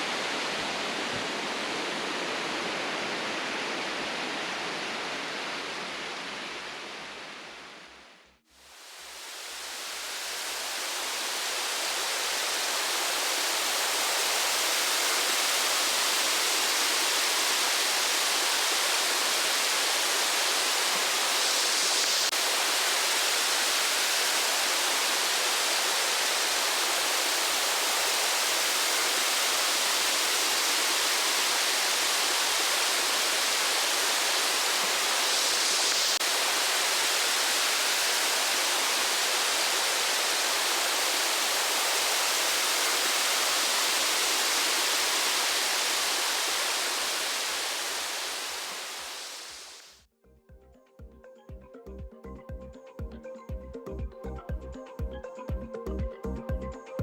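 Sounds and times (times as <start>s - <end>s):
waterfall rushing: 0.0s - 7.6s, 8.6s - 50.0s.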